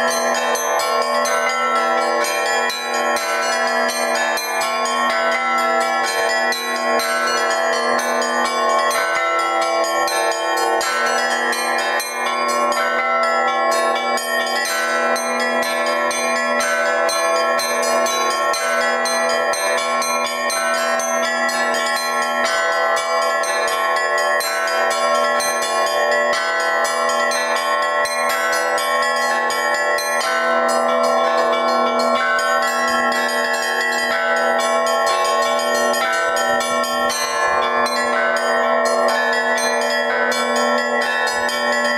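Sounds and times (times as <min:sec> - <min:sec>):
large bells ringing: 0:00.0 - 0:41.9
small bells struck fast: 0:00.0 - 0:41.9.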